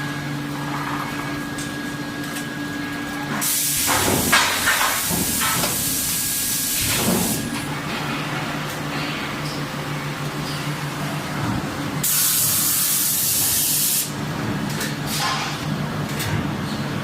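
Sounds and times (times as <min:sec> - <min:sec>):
factory machine hum: 0:00.0 - 0:17.0.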